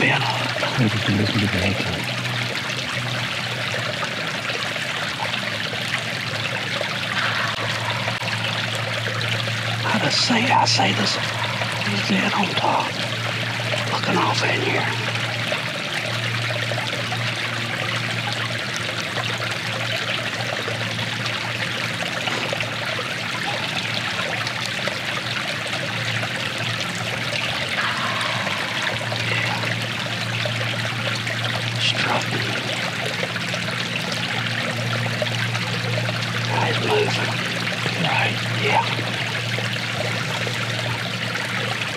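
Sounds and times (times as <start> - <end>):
creek trickling over logs: 0.0 - 41.9.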